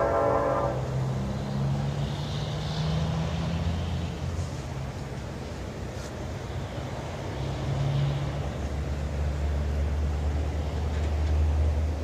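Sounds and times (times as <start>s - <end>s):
distant locomotive engine drone: 0.0s - 12.0s.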